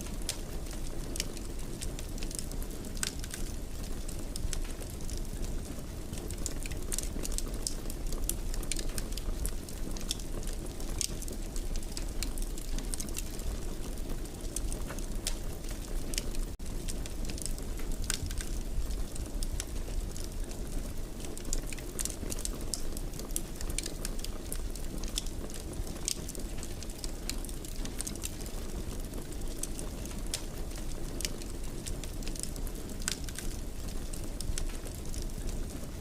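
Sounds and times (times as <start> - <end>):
wood fire burning: 0.0 - 36.0.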